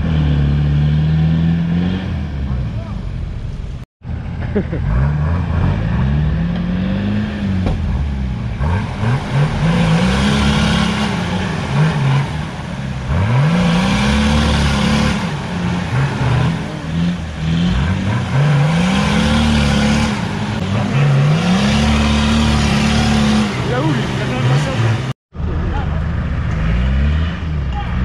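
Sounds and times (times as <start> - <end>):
engines revving hard: 0.0 - 3.0, 4.4 - 28.0.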